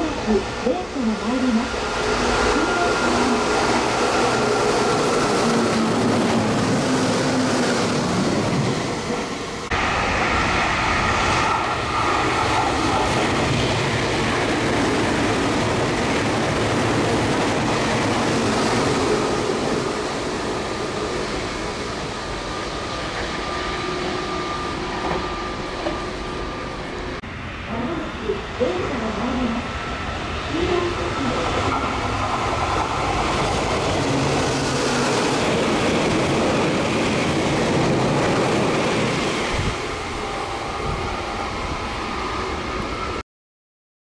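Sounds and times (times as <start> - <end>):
electric train humming: 0.0 - 43.2
train wheels on rails: 0.1 - 43.2.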